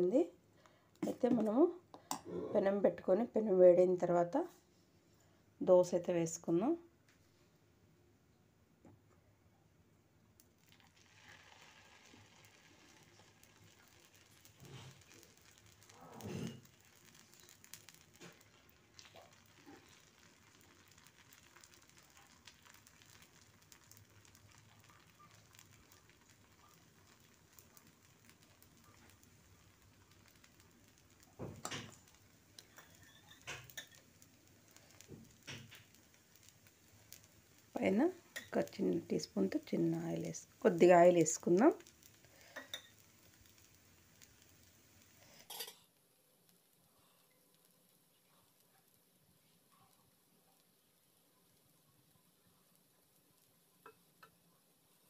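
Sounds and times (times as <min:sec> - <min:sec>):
batter sizzling on griddle: 0:10.4 - 0:55.0.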